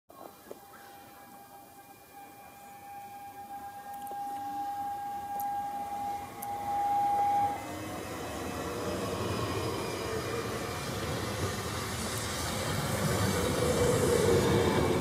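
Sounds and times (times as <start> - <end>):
train wheels on rails: 0.1 - 15.0
steady high tone: 0.2 - 15.0.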